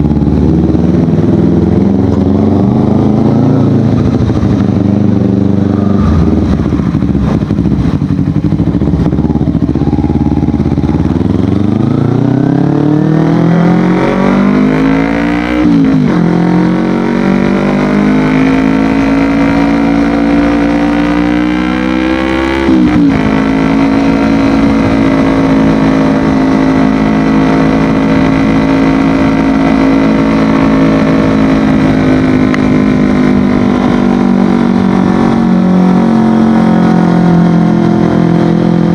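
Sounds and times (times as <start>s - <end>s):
motorcycle accelerating and shifting: 0.0s - 38.9s.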